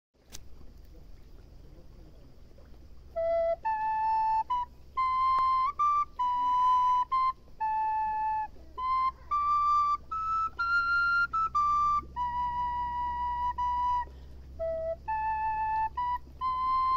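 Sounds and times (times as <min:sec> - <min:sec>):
low steady rumble: 0:00.2 - 0:16.9
flute-like melody: 0:03.0 - 0:16.9.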